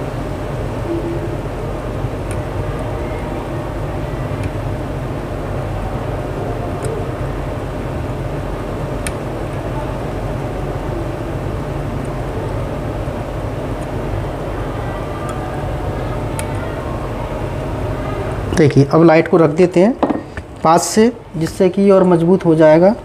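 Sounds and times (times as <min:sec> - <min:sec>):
machinery humming with hiss: 0:00.0 - 0:23.0.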